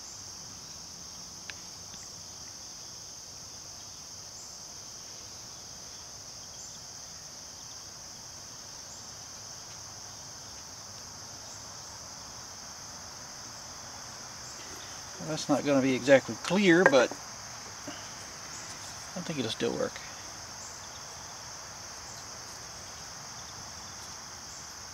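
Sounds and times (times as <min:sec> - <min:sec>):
high-pitched insect chorus: 0:00.0 - 0:24.9.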